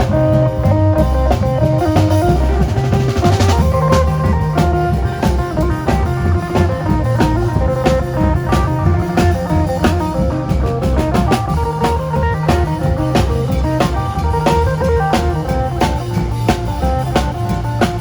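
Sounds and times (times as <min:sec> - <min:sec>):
drum kit and bass beat: 0:00.0 - 0:18.0.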